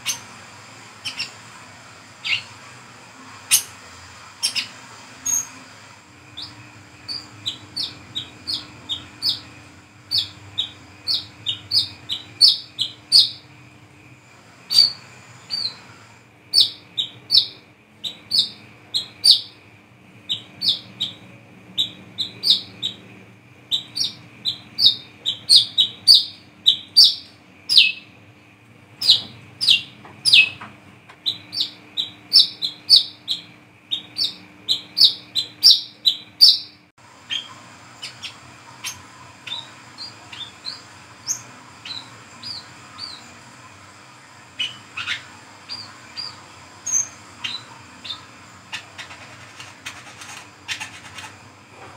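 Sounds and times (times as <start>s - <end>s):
bird chirping: 0.0s - 0.3s, 1.0s - 1.4s, 2.2s - 2.6s, 3.4s - 3.8s, 4.4s - 5.6s, 6.2s - 14.1s, 14.7s - 23.1s, 23.7s - 28.2s, 29.0s - 43.5s, 44.5s - 51.5s.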